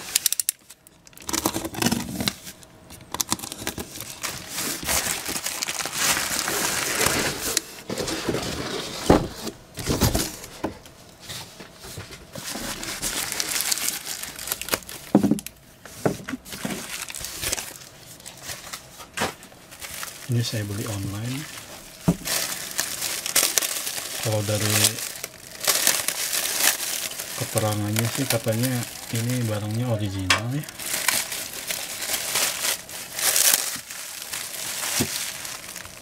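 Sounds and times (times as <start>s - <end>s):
plastic and cardboard crinkling tearing: 0.0s - 10.5s, 12.4s - 36.0s.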